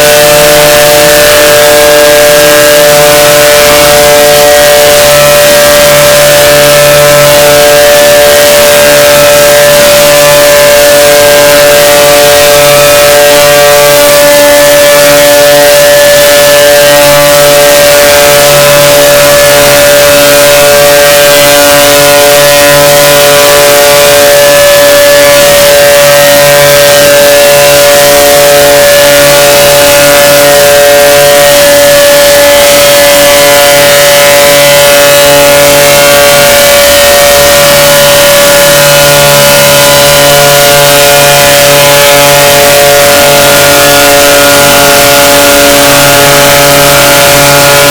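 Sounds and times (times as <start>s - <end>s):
time-stretched voice drone: 0.0s - 47.9s.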